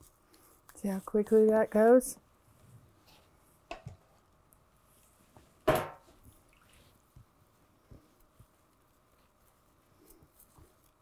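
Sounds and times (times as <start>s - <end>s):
wet paintbrush dabbing: 0.0s - 11.0s.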